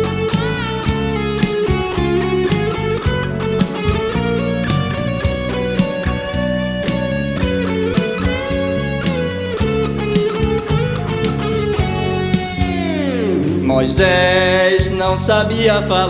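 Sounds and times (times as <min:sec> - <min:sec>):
steady drum beat: 0:00.0 - 0:15.8
bass and keyboards: 0:00.0 - 0:16.0
lead guitar melody: 0:00.0 - 0:16.0.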